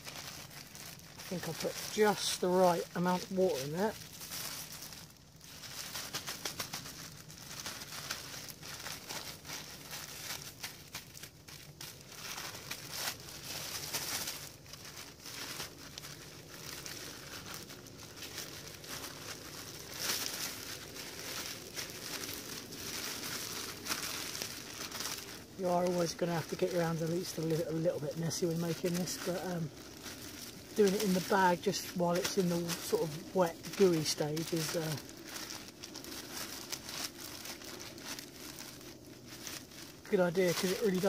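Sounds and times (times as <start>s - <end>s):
bag of dough crackling: 0.0s - 41.0s.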